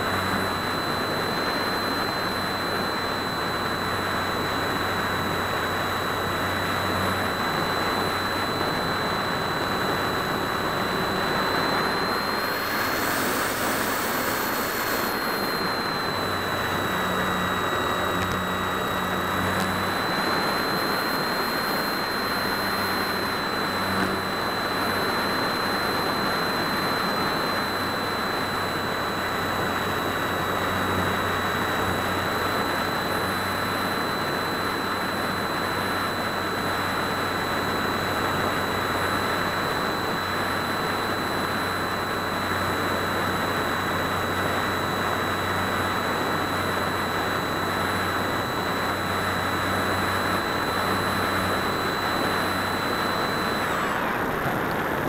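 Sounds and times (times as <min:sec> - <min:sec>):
high-pitched whine: 0:00.0 - 0:55.0.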